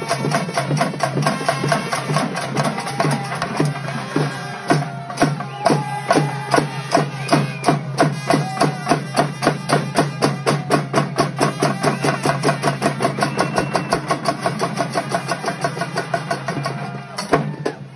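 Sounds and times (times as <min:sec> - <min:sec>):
trumpets and trombone: 0:00.0 - 0:13.3, 0:14.0 - 0:17.4
bass and frame drums beating: 0:00.0 - 0:17.9.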